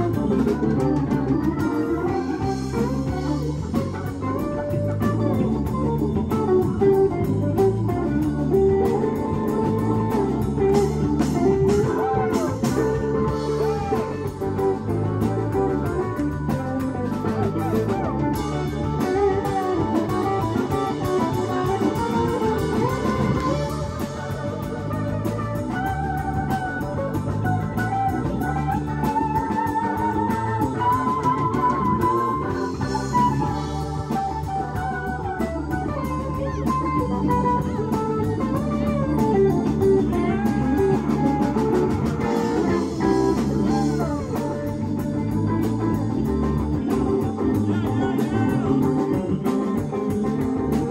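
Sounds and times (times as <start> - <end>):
drum kit: 0.0 - 50.9
electric bass: 0.0 - 50.9
electric guitar lead: 0.0 - 50.9
keyboard: 0.0 - 50.9.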